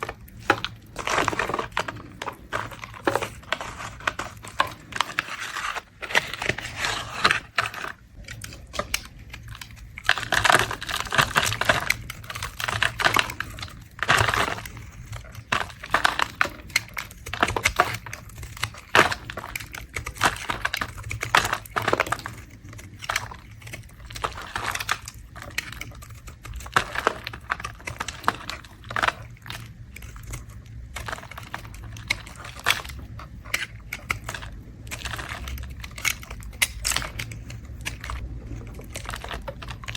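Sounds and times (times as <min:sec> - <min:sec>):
blade scraping soap: 0:00.0 - 0:39.9.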